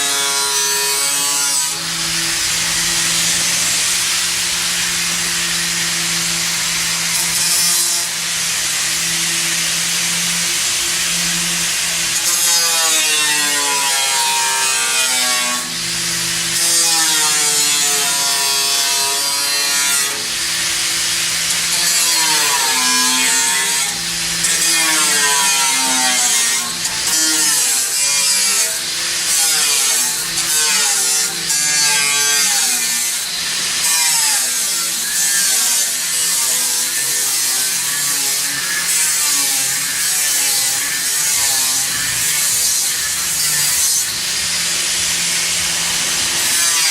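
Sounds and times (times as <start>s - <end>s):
power saw cutting: 0.0s - 46.9s.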